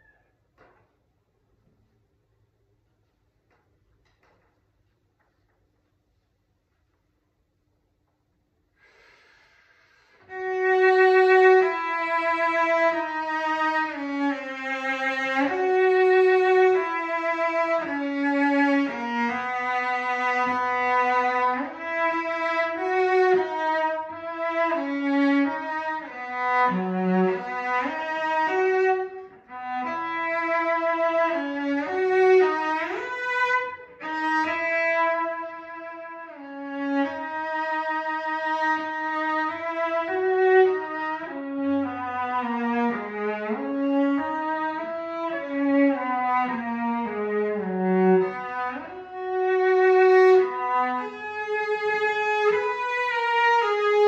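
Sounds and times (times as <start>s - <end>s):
bowed cello melody: 8.9s - 54.0s.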